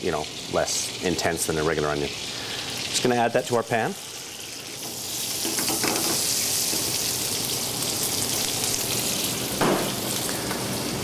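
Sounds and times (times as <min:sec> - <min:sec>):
shallots sizzling in a frying pan: 0:00.0 - 0:11.0.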